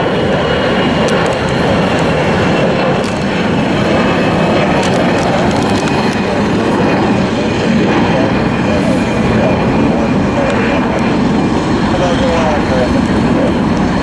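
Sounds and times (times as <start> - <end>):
high jet engine whine: 0.0 - 14.0
jet engines rumbling: 0.0 - 14.0.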